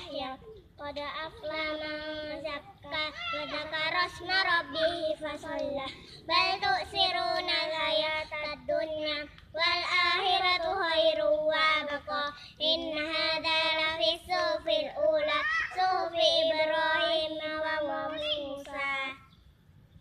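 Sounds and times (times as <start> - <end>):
children chanting melodically: 0.0 - 19.0.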